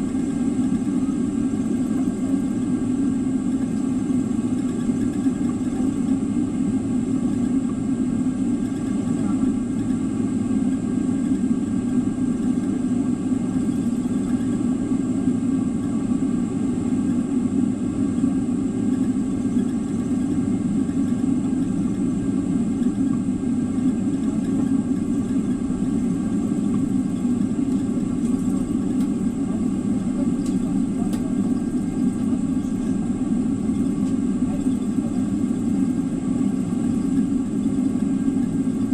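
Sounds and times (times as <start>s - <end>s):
aircraft cabin hum: 0.0s - 38.9s.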